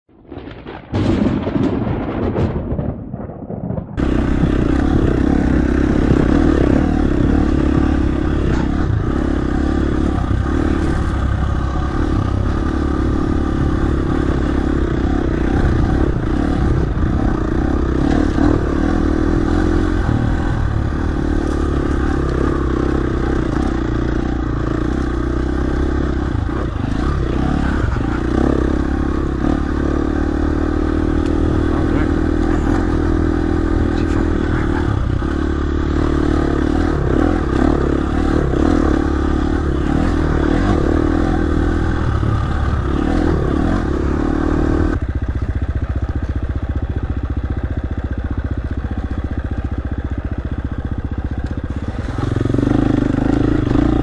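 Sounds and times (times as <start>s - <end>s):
dirt bike engine running: 4.0s - 54.0s.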